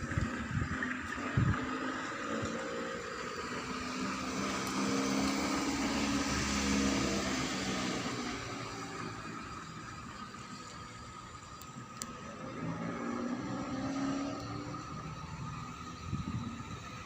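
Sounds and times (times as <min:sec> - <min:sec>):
bus diesel engine pulling away: 0:00.0 - 0:17.0.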